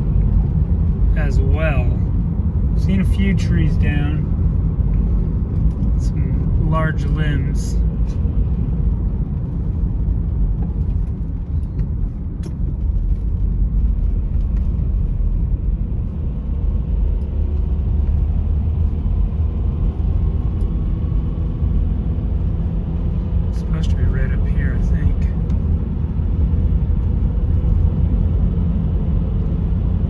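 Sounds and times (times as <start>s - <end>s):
car engine and tyre road noise: 0.0s - 30.0s.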